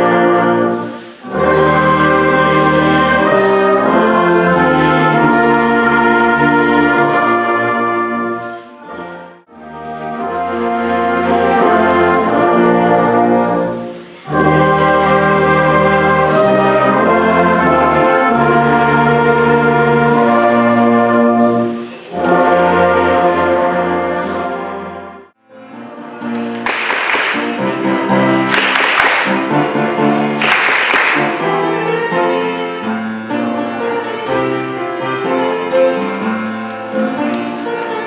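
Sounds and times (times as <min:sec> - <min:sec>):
brass band playing chords: 0:00.0 - 0:38.0.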